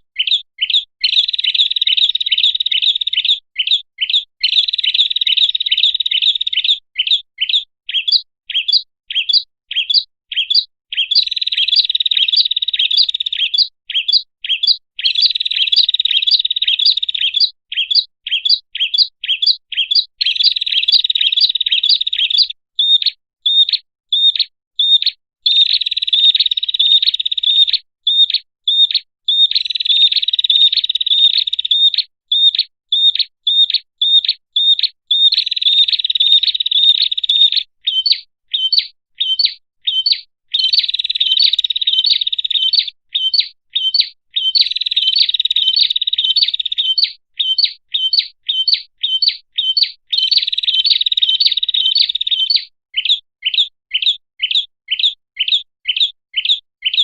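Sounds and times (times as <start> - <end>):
bird trilling and chirping: 0.2 - 57.0.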